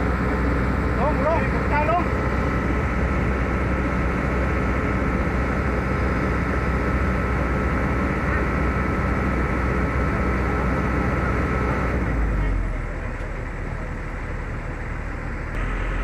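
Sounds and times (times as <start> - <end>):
constant high whine: 0.0 - 16.0
diesel engines droning: 0.0 - 16.0.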